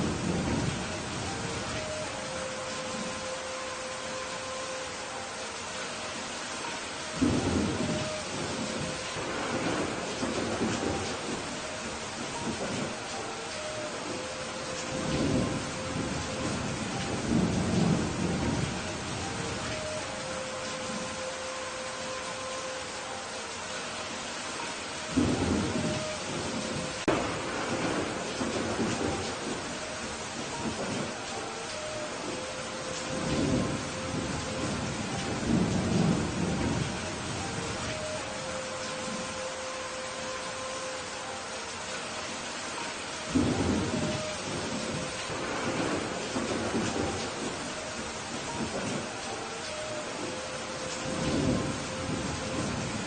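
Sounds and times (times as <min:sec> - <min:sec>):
thunder rumbling: 0:00.0 - 0:05.2, 0:06.6 - 0:22.4, 0:25.0 - 0:40.4, 0:42.8 - 0:53.0
rain hissing: 0:00.0 - 0:53.0.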